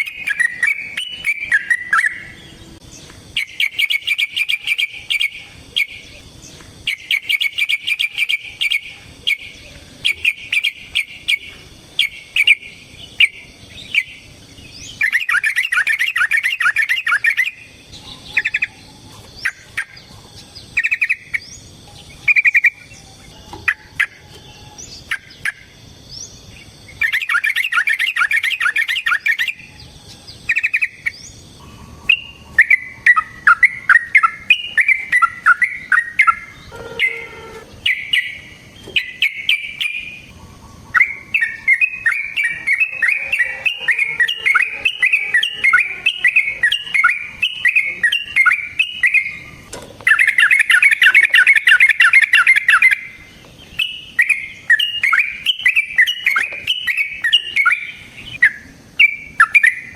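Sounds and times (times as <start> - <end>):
bird singing rapid chirps: 0.0 - 59.9.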